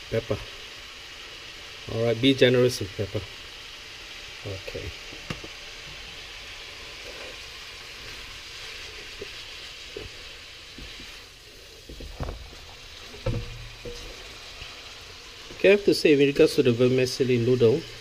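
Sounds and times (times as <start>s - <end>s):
noodles sizzling in a wok: 0.0s - 18.0s.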